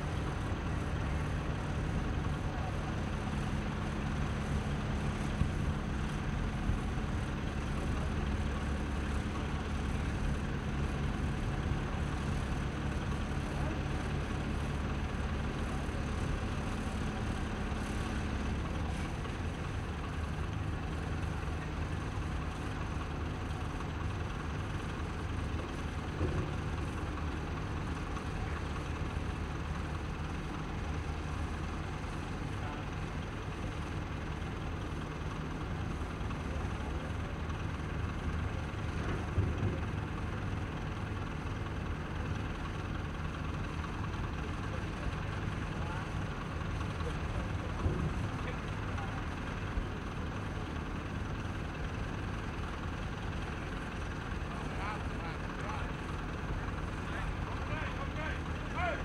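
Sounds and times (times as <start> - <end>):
heavy engine running: 0.0 - 59.0.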